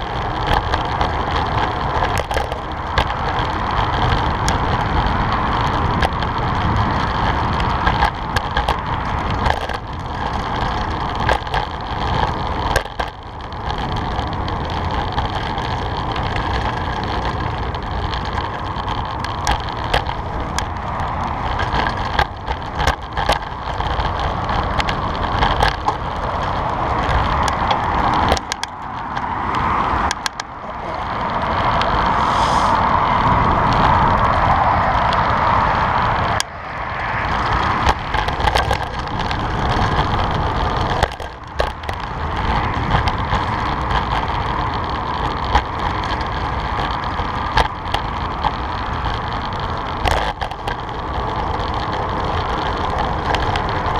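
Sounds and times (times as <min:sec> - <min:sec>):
bicycle rolling over pavement: 0:00.0 - 0:53.9
bike clicks and rattles: 0:00.0 - 0:53.9.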